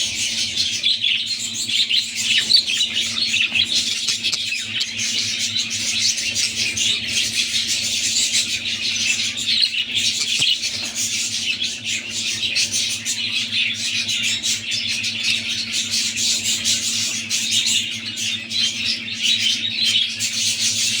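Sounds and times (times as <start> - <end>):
budgerigars chattering and squawking: 0.0 - 21.0.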